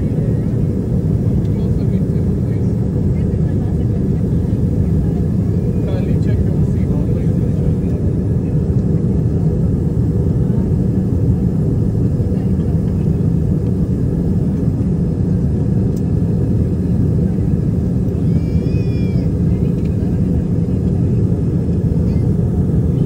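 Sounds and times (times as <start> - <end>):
jet airliner cabin rumble: 0.0 - 23.0.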